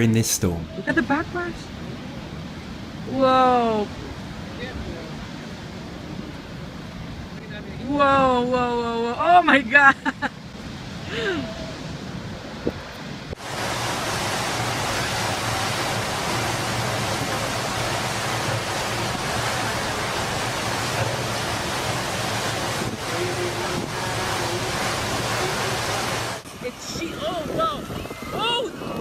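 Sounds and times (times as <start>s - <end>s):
heavy surf roar: 0.0s - 29.0s
storm wind: 0.0s - 29.0s
wind rumbling on microphone: 0.7s - 29.0s.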